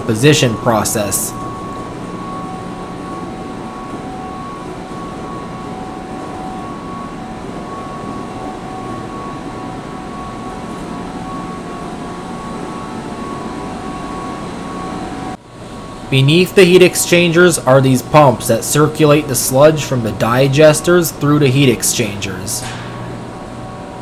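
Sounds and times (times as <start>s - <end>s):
plant machinery drone: 0.0s - 24.0s
thin whining tones: 0.0s - 24.0s.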